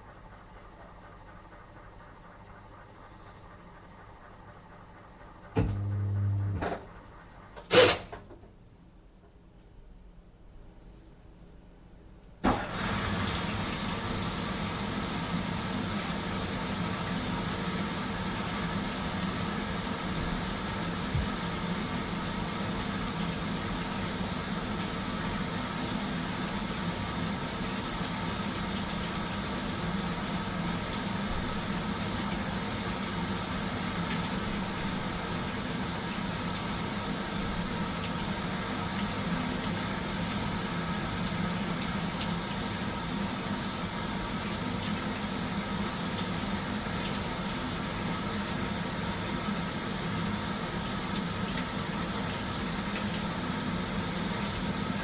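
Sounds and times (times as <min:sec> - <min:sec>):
washing machine running: 0:00.0 - 0:08.2, 0:12.4 - 0:55.0.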